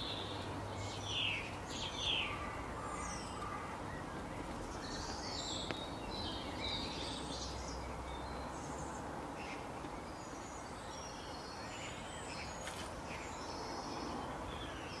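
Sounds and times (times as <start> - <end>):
birds chirping and calling: 0.0 - 15.0
outdoor background hiss: 0.0 - 15.0.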